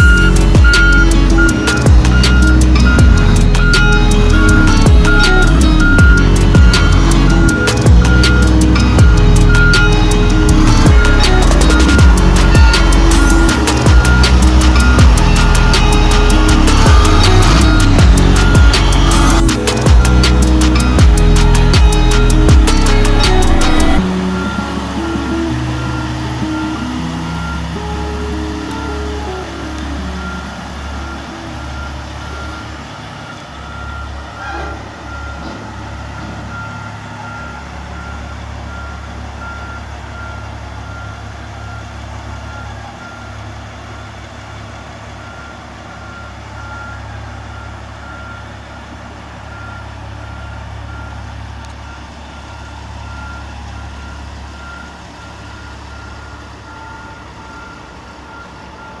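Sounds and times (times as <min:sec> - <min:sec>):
diesel engine running: 0:00.0 - 0:59.0
reversing alarm beeping: 0:00.0 - 0:59.0.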